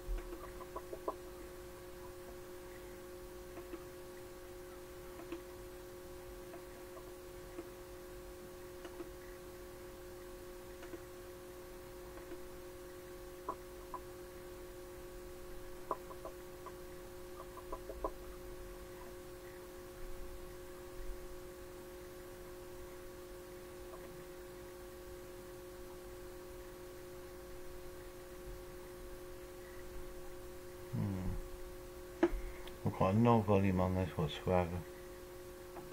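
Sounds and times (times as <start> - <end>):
steady electronic hum: 0.0 - 35.9.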